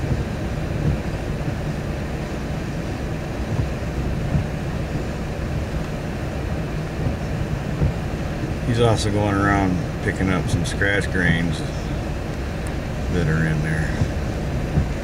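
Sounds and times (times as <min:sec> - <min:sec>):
vehicle idling rumble: 0:00.0 - 0:15.0
windshield wipers sweeping: 0:00.0 - 0:15.0.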